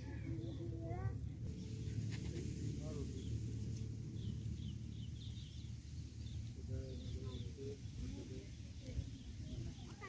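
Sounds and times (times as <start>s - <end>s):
small birds chirping: 0.0s - 10.0s
steady low rumble: 0.0s - 10.0s.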